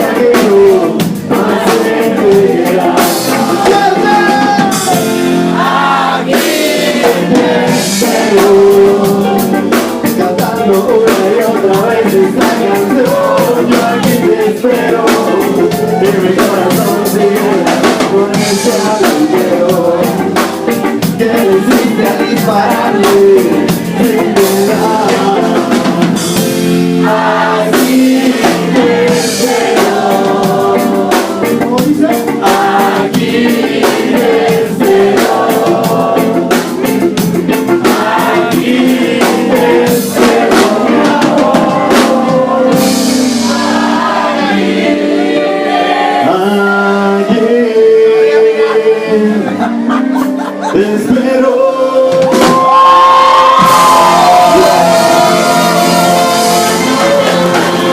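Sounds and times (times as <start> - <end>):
drum kit: 0.0 - 47.6, 49.0 - 57.9
live ska band: 0.0 - 57.9
person singing: 0.0 - 57.9.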